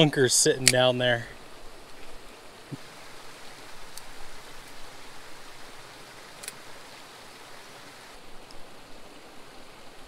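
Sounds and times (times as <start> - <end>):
steady rushing outdoor noise: 0.0 - 10.0.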